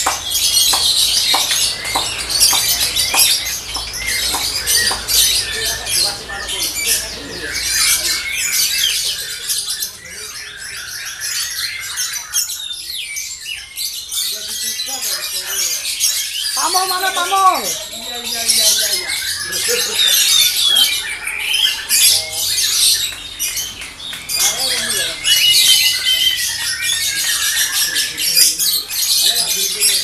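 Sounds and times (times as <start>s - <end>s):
lovebirds chirping and trilling: 0.0s - 30.0s.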